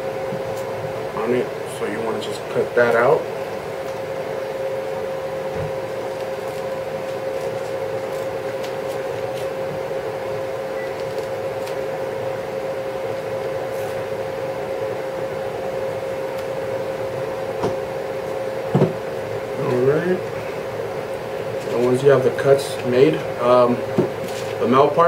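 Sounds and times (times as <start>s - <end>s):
steady room hum: 0.0s - 25.0s.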